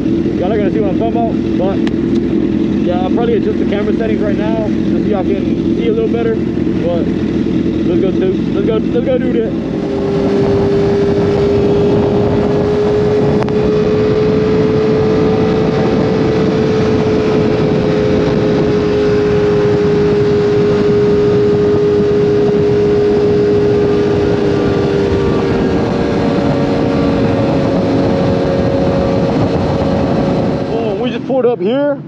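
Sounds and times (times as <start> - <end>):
motorcycle engine cruising: 0.0 - 32.0
wind rush: 0.0 - 32.0.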